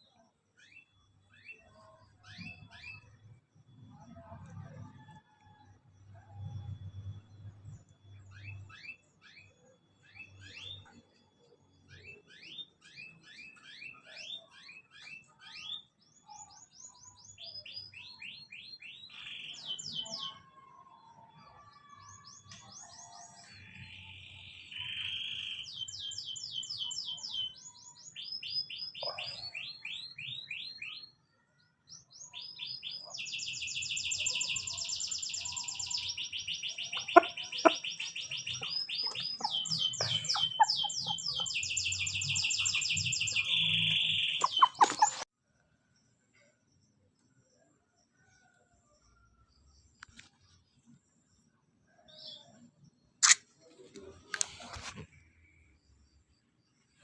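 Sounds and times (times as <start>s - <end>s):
small birds chirping and trilling: 0.0s - 5.1s, 6.4s - 57.0s.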